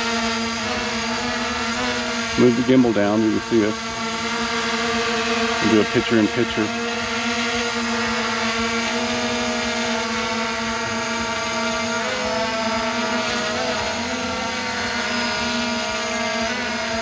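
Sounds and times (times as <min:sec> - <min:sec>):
quadcopter buzzing: 0:00.0 - 0:17.0.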